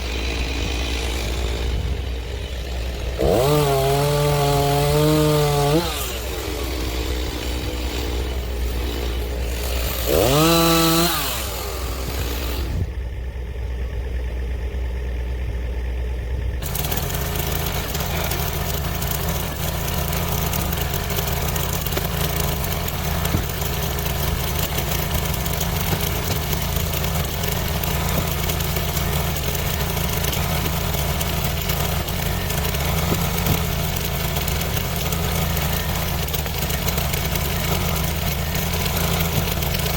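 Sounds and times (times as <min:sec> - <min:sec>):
chainsaw idling and revving: 0:00.0 - 0:13.3, 0:13.9 - 0:39.9
engine idling: 0:00.0 - 0:39.9.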